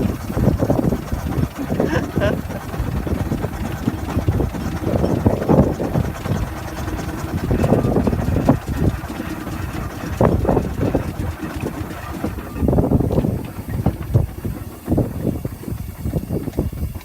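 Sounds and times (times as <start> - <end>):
steam traction engine rumbling: 0.0 - 17.0.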